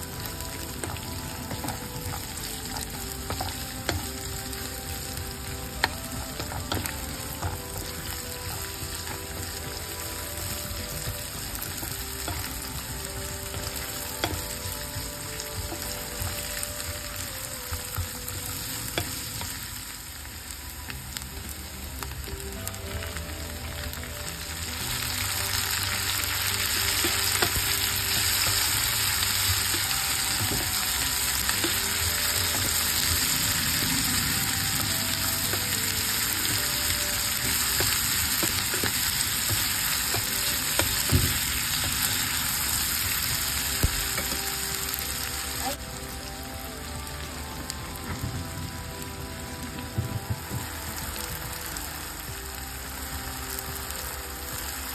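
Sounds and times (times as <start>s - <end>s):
onions sizzling in hot oil: 0.0s - 54.9s.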